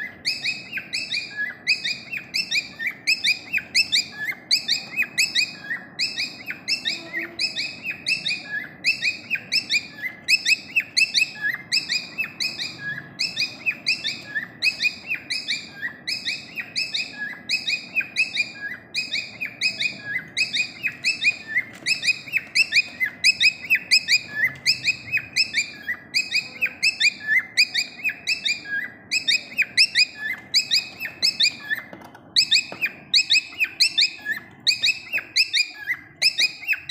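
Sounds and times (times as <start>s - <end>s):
parrot chirping: 0.0s - 36.9s.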